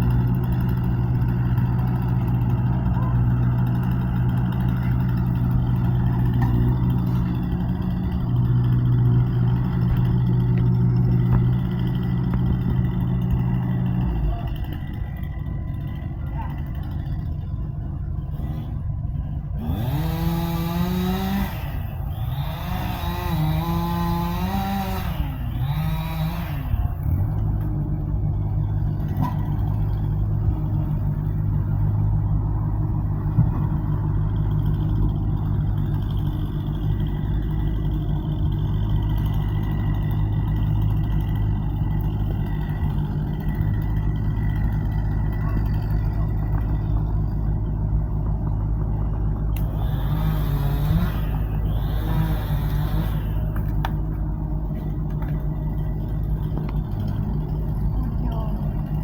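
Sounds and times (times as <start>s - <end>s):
engine revving and droning: 0.0s - 59.0s.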